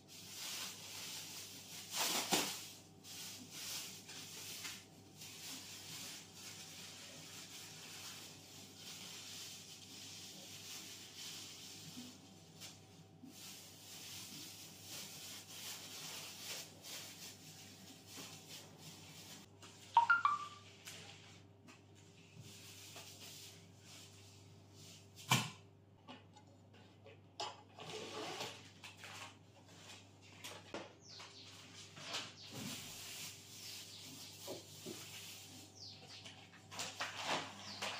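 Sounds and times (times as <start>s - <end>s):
plastic bags rustling: 0.0s - 21.5s, 22.4s - 25.2s, 27.9s - 37.9s.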